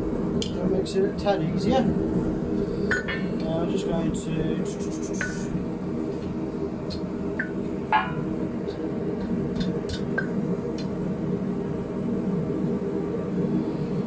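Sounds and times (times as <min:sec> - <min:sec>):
gas forge burner: 0:00.0 - 0:14.0.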